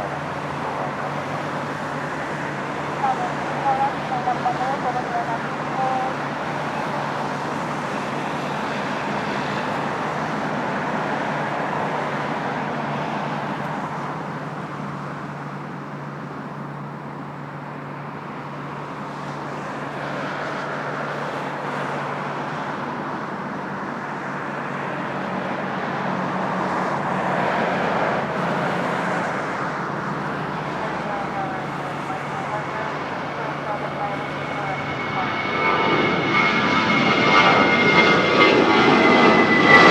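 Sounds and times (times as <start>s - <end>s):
jet engine roar: 0.0s - 39.9s.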